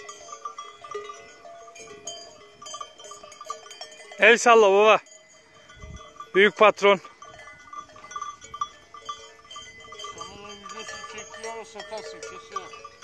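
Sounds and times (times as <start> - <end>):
livestock bells ringing: 0.0 - 13.0.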